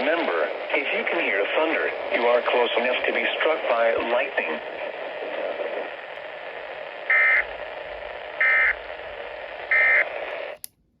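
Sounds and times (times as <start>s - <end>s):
radio hiss: 0.0s - 10.6s.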